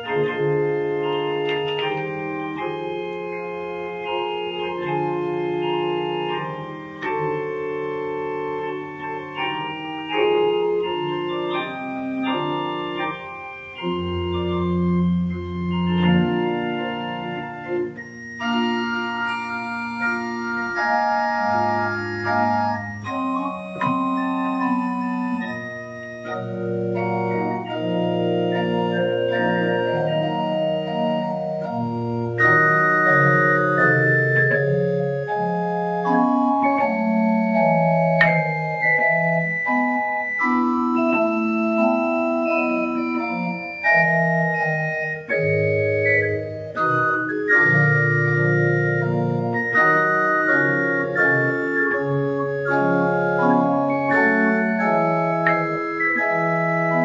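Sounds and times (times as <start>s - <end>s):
church organ playing: 0.0s - 57.0s.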